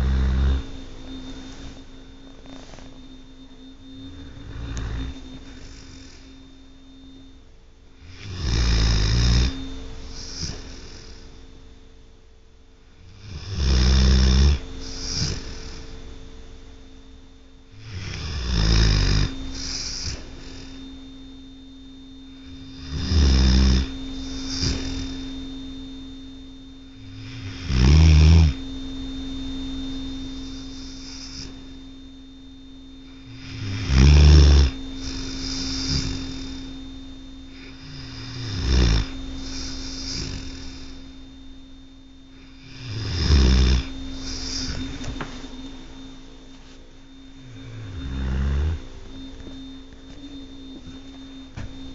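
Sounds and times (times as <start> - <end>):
dog snoring: 0.0 - 11.5, 12.8 - 16.1, 17.6 - 21.5, 22.2 - 32.0, 32.9 - 51.9
steady hum: 0.0 - 51.9.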